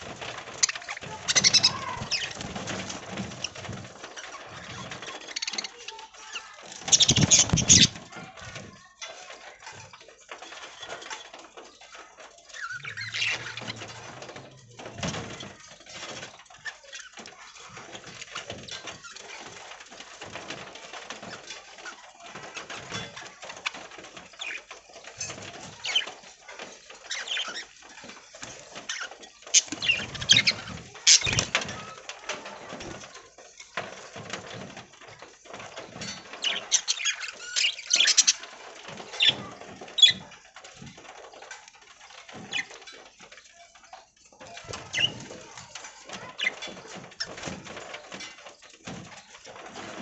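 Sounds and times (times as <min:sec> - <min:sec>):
budgies chirping and chattering: 0:00.0 - 0:50.0
clicks and rustles: 0:00.0 - 0:50.0.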